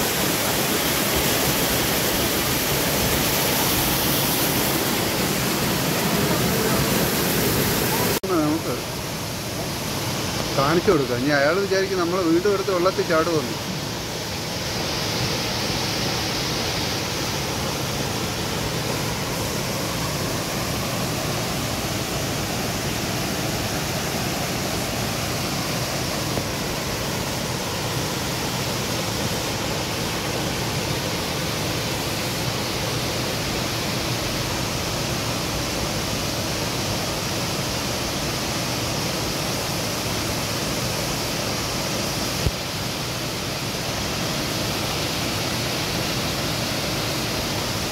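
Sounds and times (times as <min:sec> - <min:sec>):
waterfall rushing over rocks: 0:00.0 - 0:47.9.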